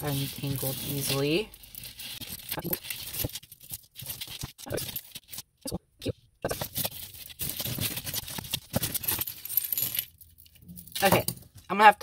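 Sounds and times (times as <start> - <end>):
jewelry rustling and clinking: 0.0 - 5.6, 6.5 - 11.7.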